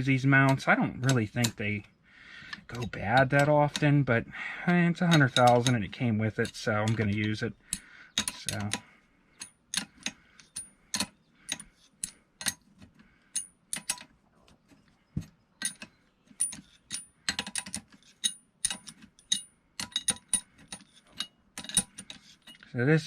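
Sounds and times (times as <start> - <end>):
metal wrenches clicking on nut: 0.0 - 14.1, 15.2 - 22.8.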